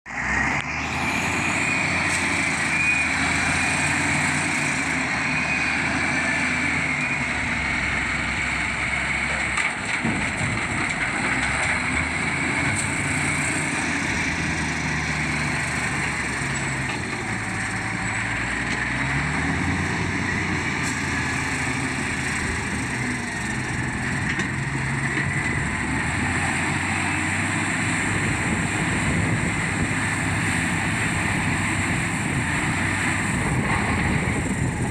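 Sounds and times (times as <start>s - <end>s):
heavy machinery engine running: 0.1s - 34.9s.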